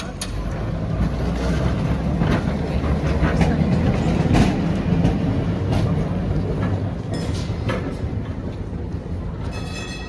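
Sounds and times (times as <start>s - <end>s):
tram rumbling: 0.0s - 10.0s
wheels clicking over rail joints: 0.0s - 10.0s.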